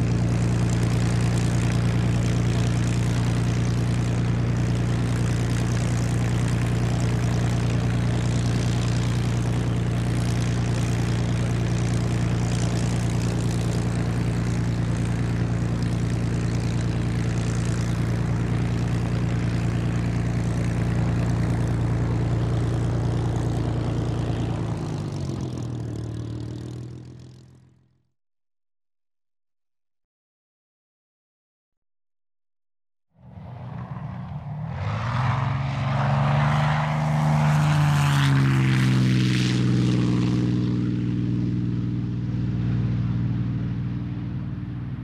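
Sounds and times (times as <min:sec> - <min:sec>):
propeller aircraft engine running: 0:00.0 - 0:28.1, 0:33.2 - 0:45.0.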